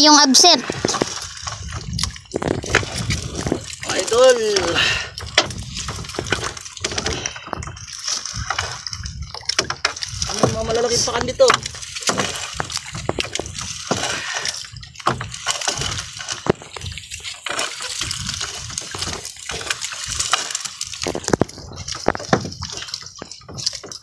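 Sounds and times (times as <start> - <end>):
water dripping: 0.0 - 24.0
water splashing: 0.0 - 24.0.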